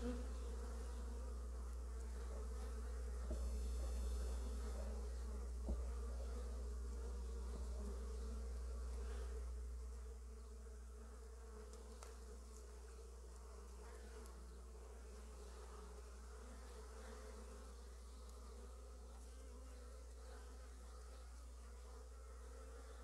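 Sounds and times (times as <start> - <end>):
constant low hum: 0.0 - 23.0
honey bees buzzing: 0.0 - 23.0.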